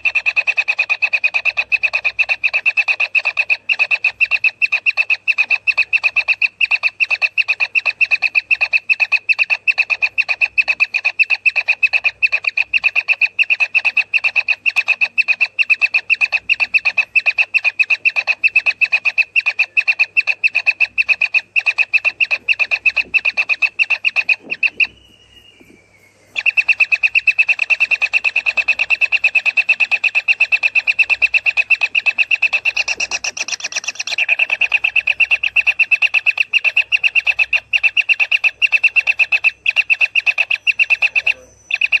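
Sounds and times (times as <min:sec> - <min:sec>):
chicks begging calls: 0:00.0 - 0:42.0.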